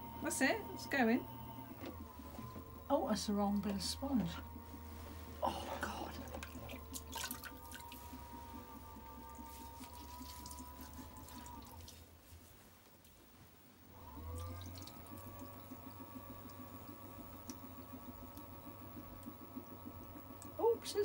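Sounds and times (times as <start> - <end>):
potter's wheel motor whining: 0.0 - 12.0, 13.9 - 21.0.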